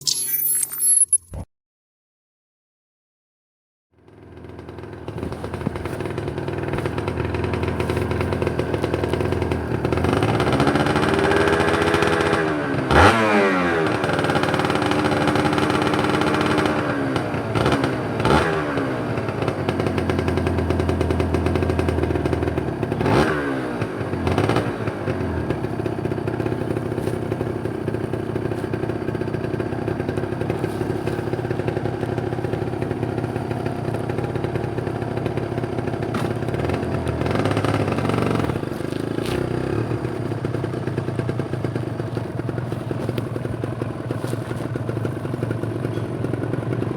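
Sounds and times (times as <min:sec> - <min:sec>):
motorcycle engine revving: 0:04.0 - 0:46.9.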